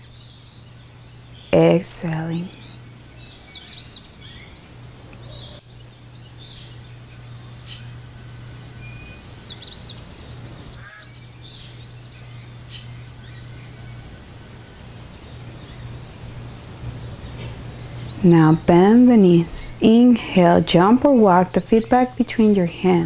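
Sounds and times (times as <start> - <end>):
steady low hum: 0.0 - 23.0
wild birds calling: 0.0 - 23.0.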